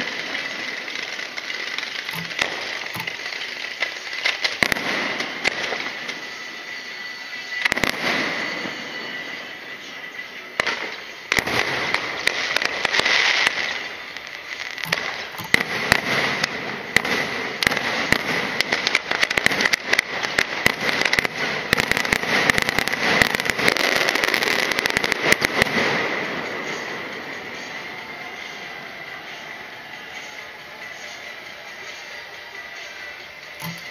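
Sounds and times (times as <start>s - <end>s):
fireworks cracking and popping: 0.0s - 33.9s.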